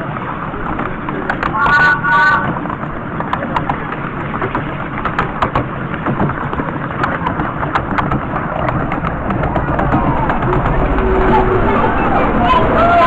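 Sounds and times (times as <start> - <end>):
miniature train rumble: 0.0 - 13.0
wheels clicking on rails: 0.0 - 13.0.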